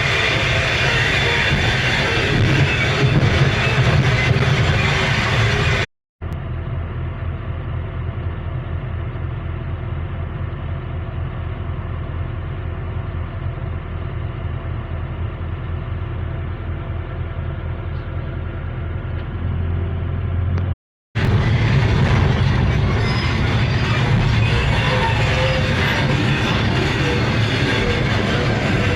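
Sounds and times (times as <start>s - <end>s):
diesel engine rumbling: 0.0s - 28.9s.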